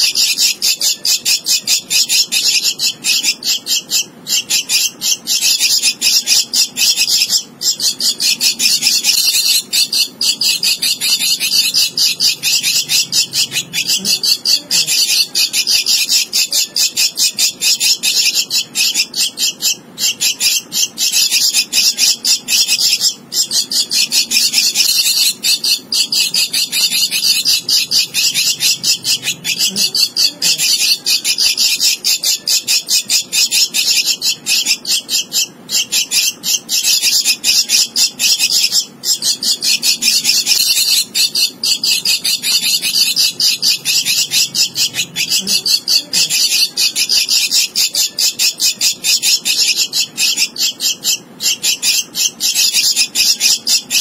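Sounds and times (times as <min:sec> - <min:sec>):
nestling begging calls: 0:00.0 - 0:54.0.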